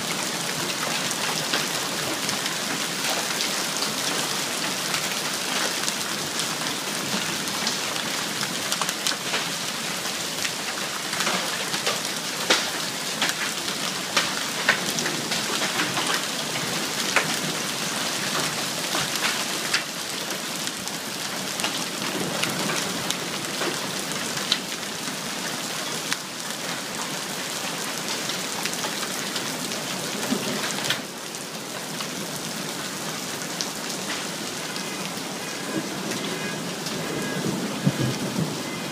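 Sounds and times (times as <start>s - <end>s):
hail and rain pelting: 0.0s - 38.9s
hailstones cracking: 0.0s - 38.9s.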